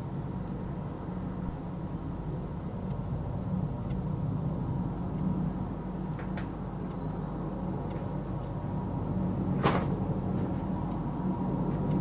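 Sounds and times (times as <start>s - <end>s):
distant jet engine rumble: 0.0s - 12.0s.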